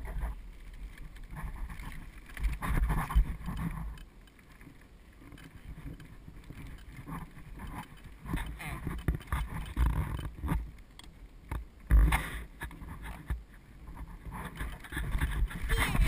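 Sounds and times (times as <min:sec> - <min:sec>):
bicycle trailer rolling and rattling: 0:00.0 - 0:16.0
wind rumbling on microphone: 0:00.0 - 0:16.0.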